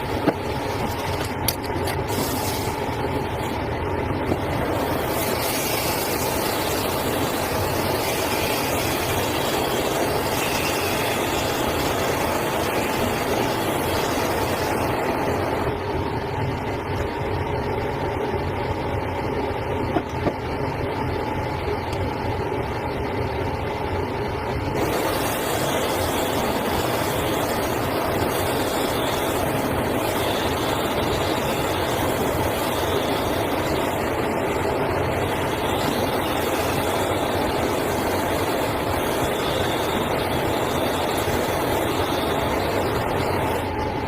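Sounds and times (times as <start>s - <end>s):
workshop machine whine: 0.0s - 44.0s.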